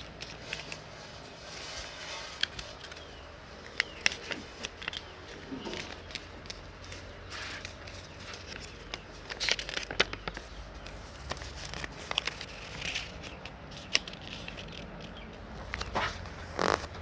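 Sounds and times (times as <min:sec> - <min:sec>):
paper crinkling and folding: 0:00.0 - 0:17.0.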